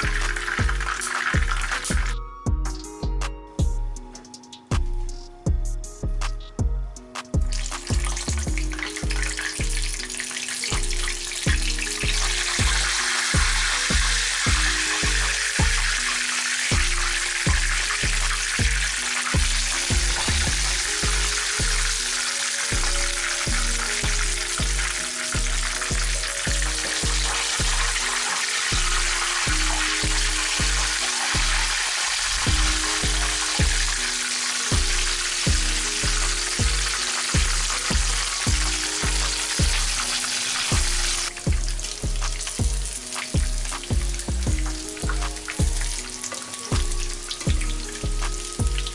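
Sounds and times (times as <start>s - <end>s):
chicken wings sizzling in hot oil: 0.0s - 2.2s, 7.4s - 48.9s
background music with bass line: 0.0s - 48.9s.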